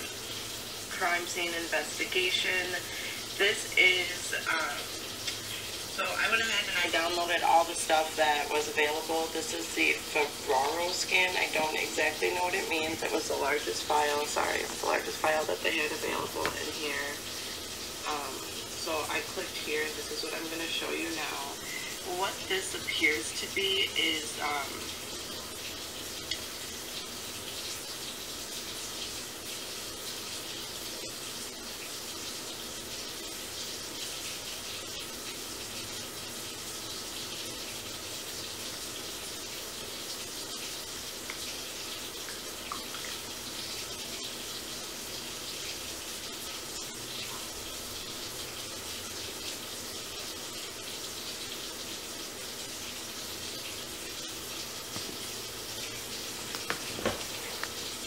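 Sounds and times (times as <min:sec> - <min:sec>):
room background hiss: 0:00.0 - 0:58.0.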